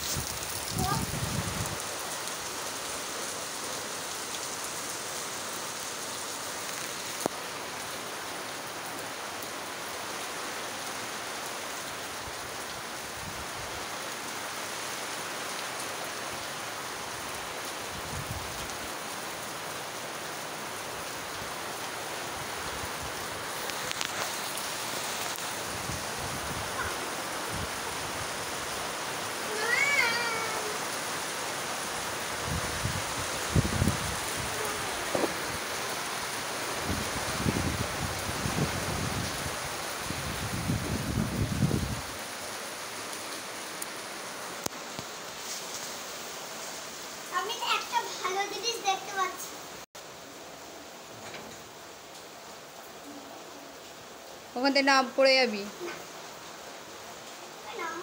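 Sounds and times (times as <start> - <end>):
heavy rain on roofs and trees: 0.0 - 58.0.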